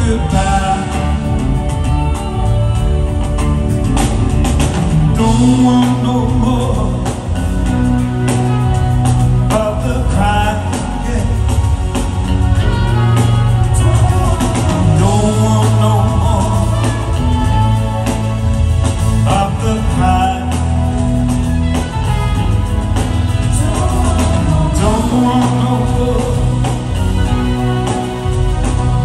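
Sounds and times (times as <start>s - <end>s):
person singing lead vocal: 0.0s - 3.8s, 5.0s - 29.0s
live band playing: 0.0s - 29.0s.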